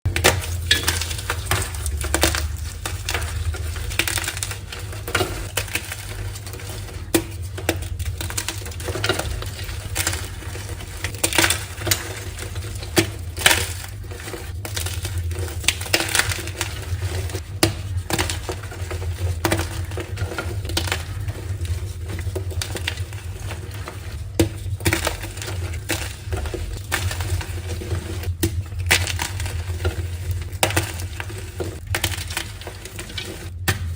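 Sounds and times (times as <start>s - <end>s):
chalk being crushed: 0.0s - 33.9s
steady low hum: 0.0s - 33.9s.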